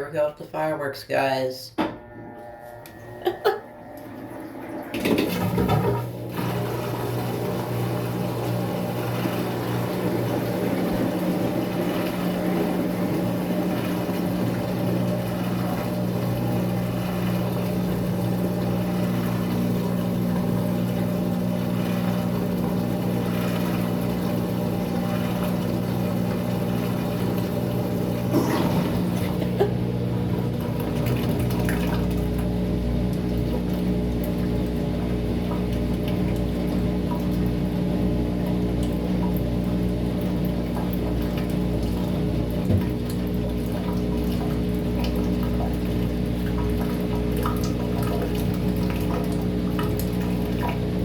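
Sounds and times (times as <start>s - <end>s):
washing machine running: 1.7s - 51.0s.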